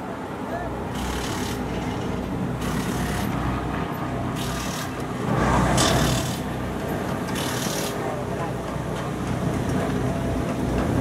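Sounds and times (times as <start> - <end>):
truck engine running at low speed: 0.0 - 11.0.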